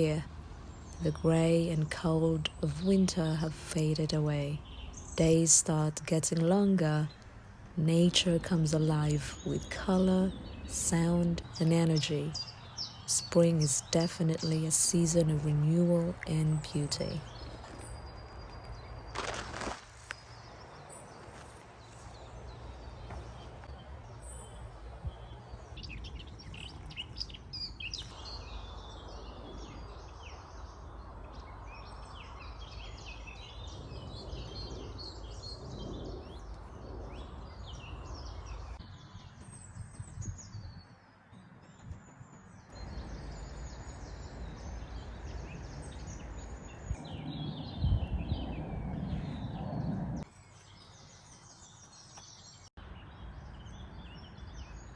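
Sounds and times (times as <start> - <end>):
songbirds singing and chirping: 0.0 - 54.9.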